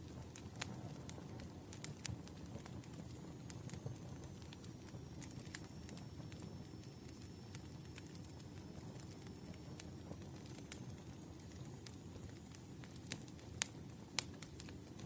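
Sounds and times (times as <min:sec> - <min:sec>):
sharp pops of burning logs: 0:00.0 - 0:15.0
wood fire crackling: 0:00.0 - 0:15.0.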